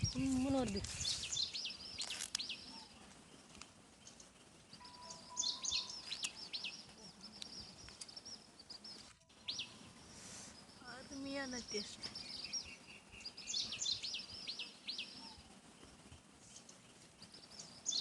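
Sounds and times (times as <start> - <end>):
faint outdoor background noise: 0.0 - 18.0
small birds chirping: 0.0 - 18.0.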